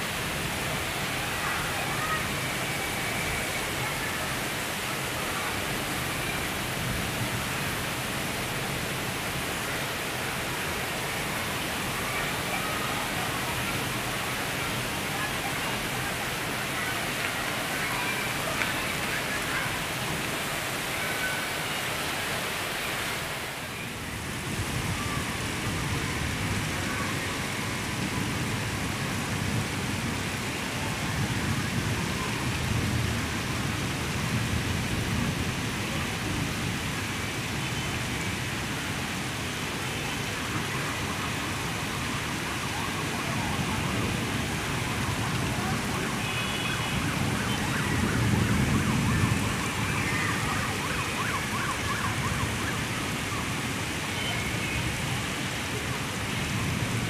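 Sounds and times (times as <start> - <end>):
heavy rain on rooftops: 0.0 - 57.0.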